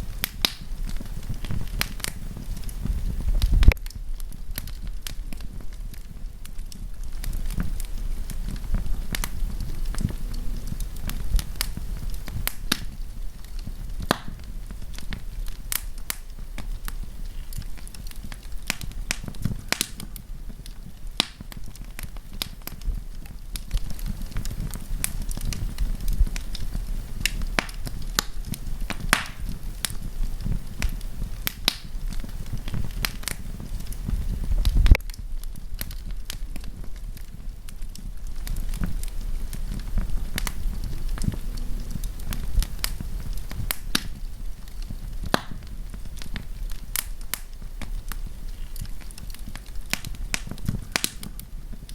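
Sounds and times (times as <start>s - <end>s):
campfire crackling: 0.0s - 51.9s
flames rumbling: 0.0s - 51.9s.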